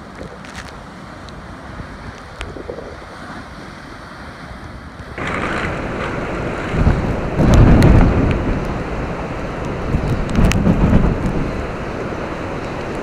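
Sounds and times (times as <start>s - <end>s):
storm surf breaking: 0.0s - 13.0s
wind gusts buffeting microphone: 0.0s - 13.0s.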